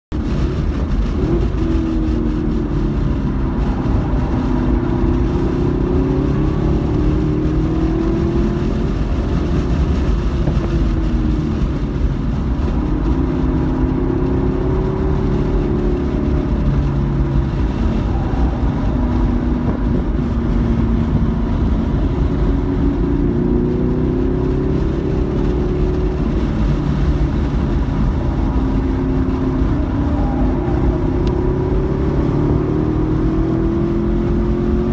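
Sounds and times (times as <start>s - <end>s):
car engine revving: 0.1s - 34.9s
road and wind noise: 0.1s - 34.9s.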